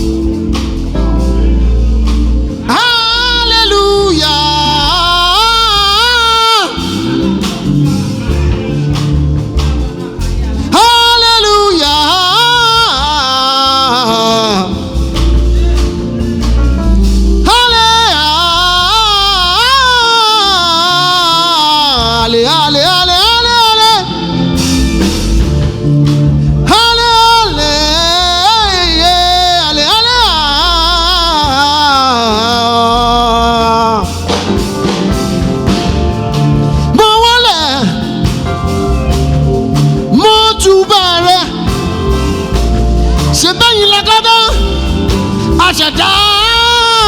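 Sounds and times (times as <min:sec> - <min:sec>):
bass and keyboard backing: 0:00.0 - 0:47.0
trumpet playing gospel melody: 0:00.0 - 0:47.0.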